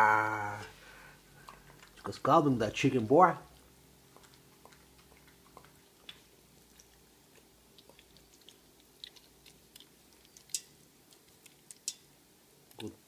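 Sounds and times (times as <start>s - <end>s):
dog chewing and crunching: 1.4s - 12.2s.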